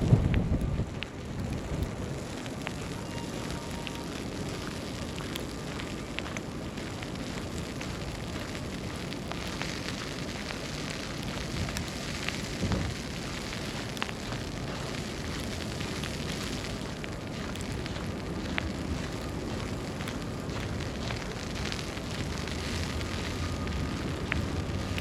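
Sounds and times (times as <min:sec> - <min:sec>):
faint ticks and crackles: 0:00.0 - 0:25.0
snowstorm hiss: 0:00.0 - 0:25.0.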